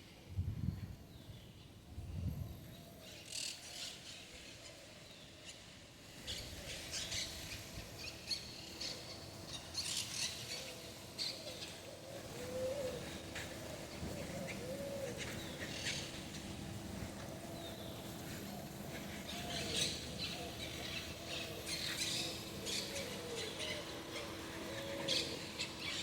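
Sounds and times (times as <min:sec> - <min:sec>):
small birds chirping: 0:03.1 - 0:26.0.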